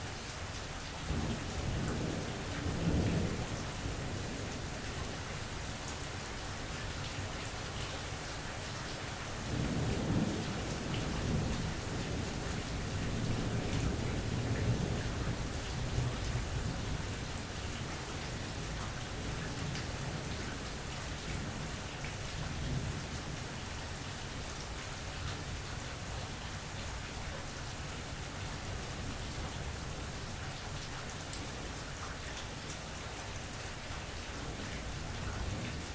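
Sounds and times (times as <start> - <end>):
steady rain: 0.0 - 35.9
raindrops ticking close by: 0.1 - 35.9
low rumble of thunder: 1.0 - 32.0, 33.6 - 35.9.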